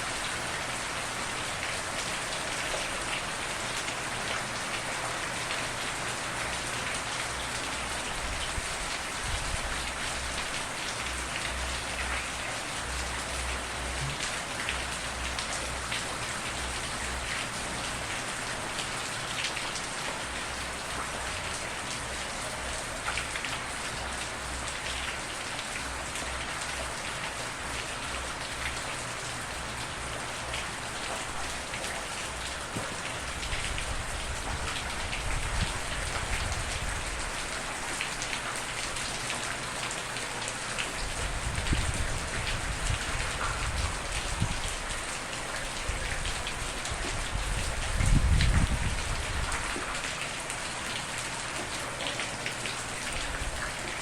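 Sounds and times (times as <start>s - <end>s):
steady rain: 0.0s - 54.0s
raindrops spattering: 8.0s - 22.0s, 22.9s - 54.0s.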